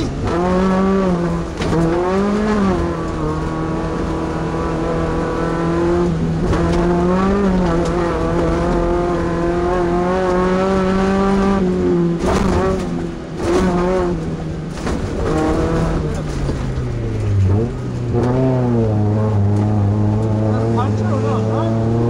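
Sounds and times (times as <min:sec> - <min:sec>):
race truck engine revving hard: 0:00.0 - 0:16.6, 0:17.2 - 0:22.0.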